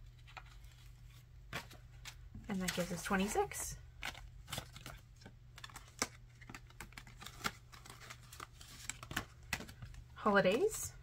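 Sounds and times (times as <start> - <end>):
banknotes rustling: 0.0 - 10.9.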